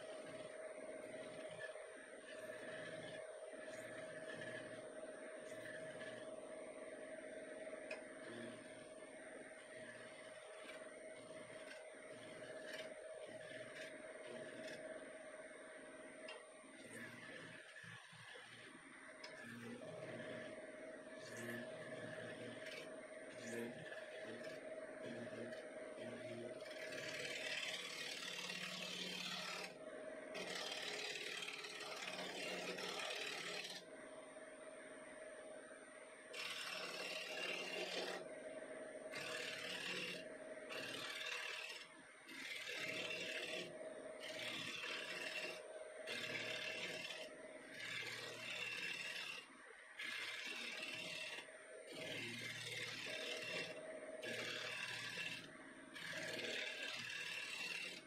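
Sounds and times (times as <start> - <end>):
gouge scraping wood on lathe: 0.0 - 6.4, 7.5 - 15.1, 21.3 - 33.9, 36.4 - 38.3, 39.1 - 58.0.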